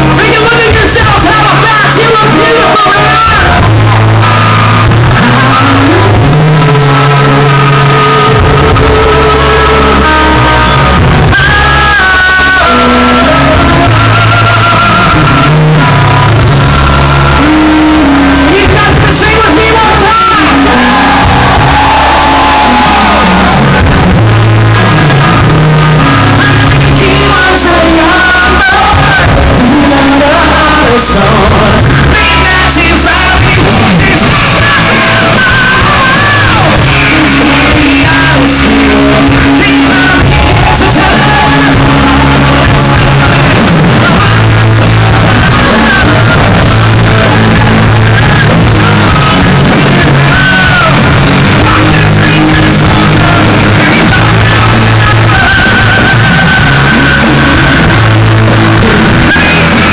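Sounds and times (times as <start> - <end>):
bass guitar: 0.0 - 59.9
drums: 0.0 - 59.9
electric guitar: 0.0 - 59.9
person singing: 0.0 - 59.9.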